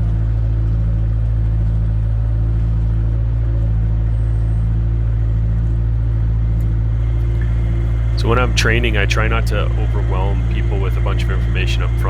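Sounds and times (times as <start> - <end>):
auger rig engine droning: 0.0 - 12.0.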